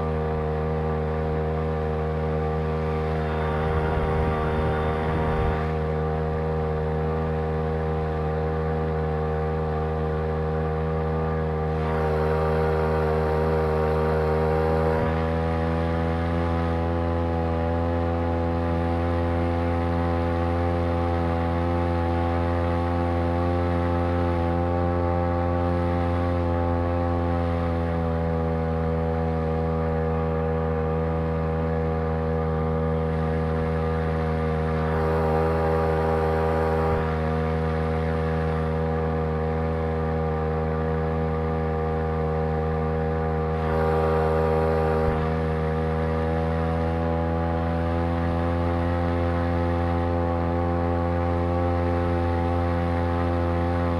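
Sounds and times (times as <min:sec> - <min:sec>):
two-stroke engine droning: 0:00.0 - 0:53.9.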